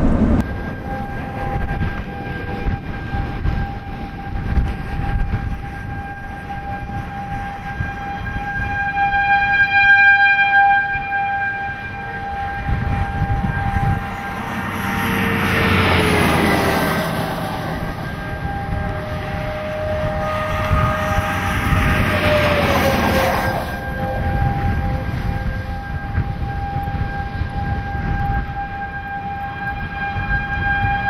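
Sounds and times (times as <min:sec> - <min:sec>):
warning siren steady tone: 0:00.0 - 0:31.0
wind rumble: 0:00.0 - 0:31.0.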